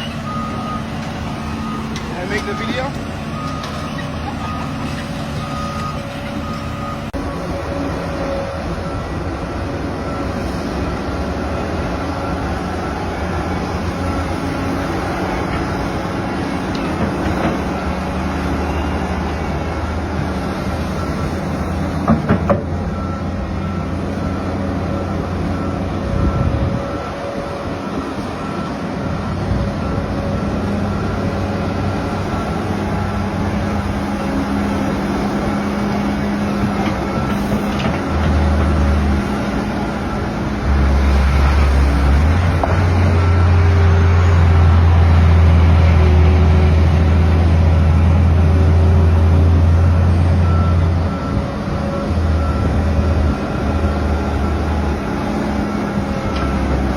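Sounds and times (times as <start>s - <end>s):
diesel excavator engine: 0.0s - 56.9s.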